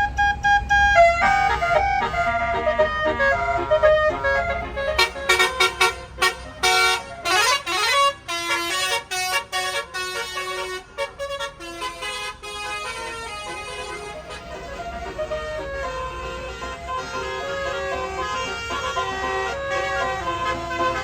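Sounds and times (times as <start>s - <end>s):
bus musical horn playing a tune: 0.0s - 21.0s.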